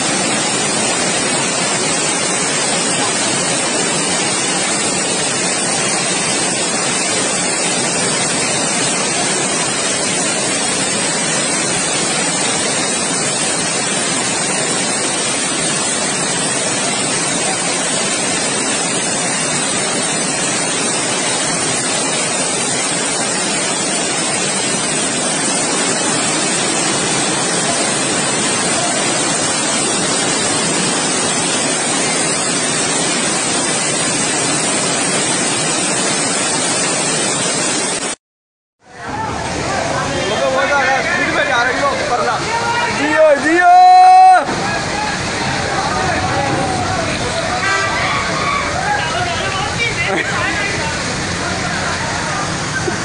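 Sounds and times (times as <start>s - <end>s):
floodwater rushing: 0.0s - 38.2s, 38.8s - 53.0s.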